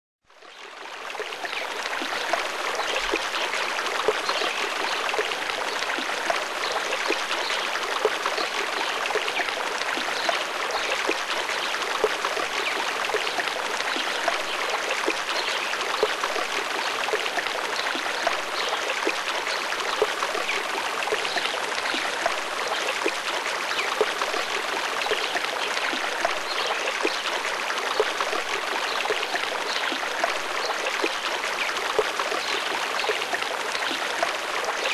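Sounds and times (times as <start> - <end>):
stream babbling: 0.4 - 34.9.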